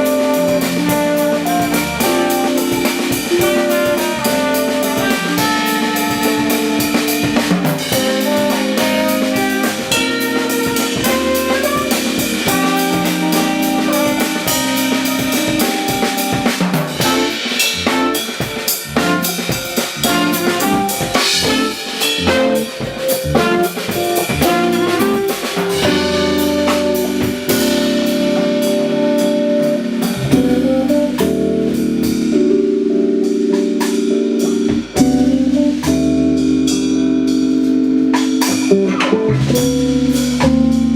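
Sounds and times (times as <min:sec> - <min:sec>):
snare and cymbal hits: 0:00.0 - 0:32.6, 0:33.5 - 0:37.5, 0:38.1 - 0:40.9
held keyboard chords: 0:00.0 - 0:40.9
small jazz band playing: 0:00.0 - 0:40.9.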